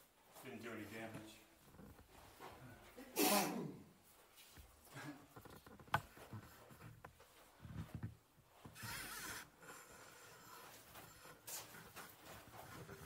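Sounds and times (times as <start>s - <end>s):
footstep scuffs: 0.0s - 3.0s, 4.0s - 13.0s.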